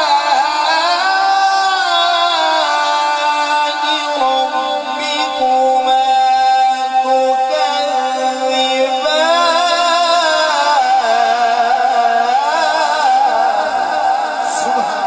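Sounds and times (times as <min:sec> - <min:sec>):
man chanting recitation through loudspeaker: 0:00.0 - 0:15.0.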